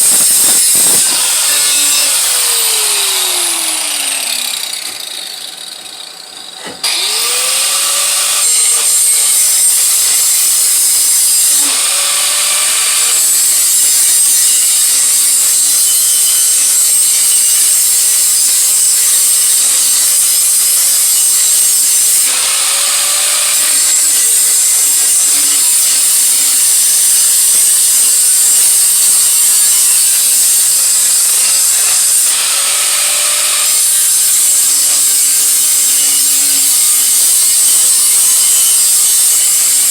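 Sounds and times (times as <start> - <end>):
electric grinder working metal: 0.0 - 39.9.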